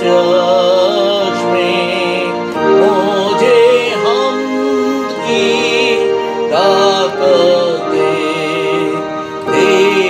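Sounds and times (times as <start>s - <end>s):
hymn singing: 0.0s - 10.0s
musical accompaniment: 0.0s - 10.0s.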